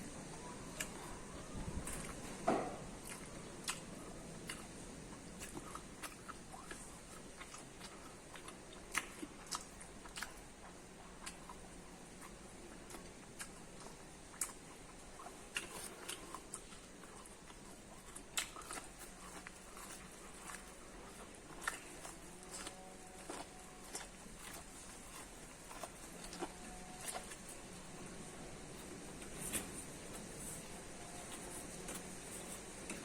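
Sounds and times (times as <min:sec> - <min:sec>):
chewing corn kernels: 0:00.0 - 0:33.0.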